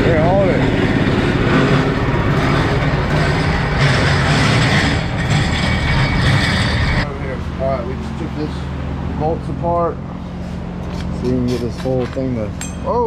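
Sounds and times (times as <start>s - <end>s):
small gas engine running: 0.0s - 11.9s.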